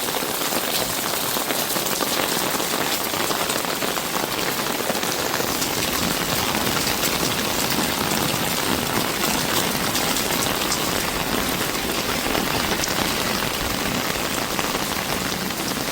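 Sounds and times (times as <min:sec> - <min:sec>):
steady rain patter: 0:00.0 - 0:15.9.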